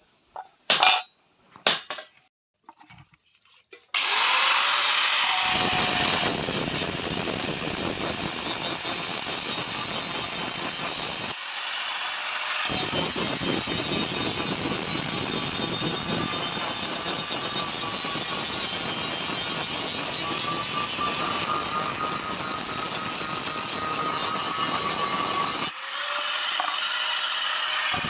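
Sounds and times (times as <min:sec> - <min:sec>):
power tool whirring on metal: 0:04.0 - 0:28.0.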